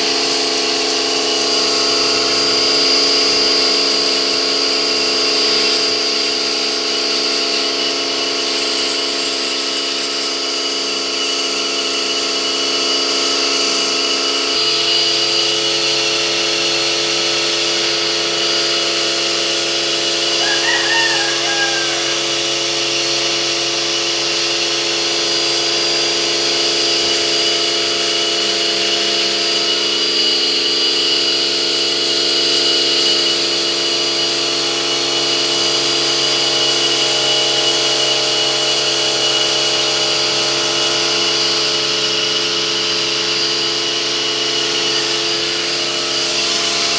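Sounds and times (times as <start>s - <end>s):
pressure washer motor whine: 0.0s - 46.9s.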